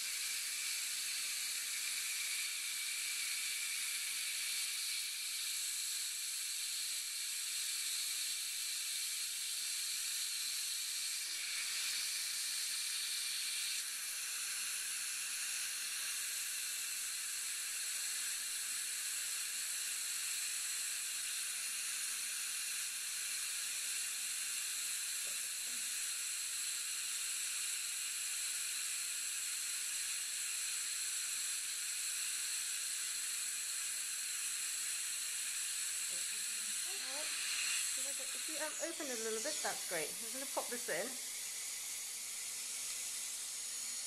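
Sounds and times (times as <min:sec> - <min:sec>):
saliva ejector suction hiss: 0:00.0 - 0:44.0.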